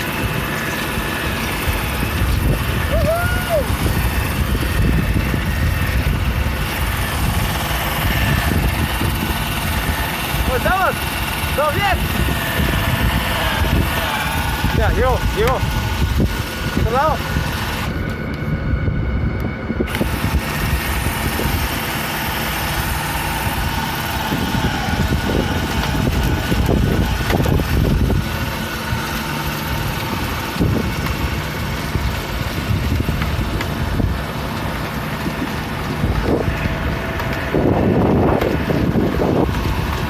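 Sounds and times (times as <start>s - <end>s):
machine running with rushing noise: 0.0s - 40.0s.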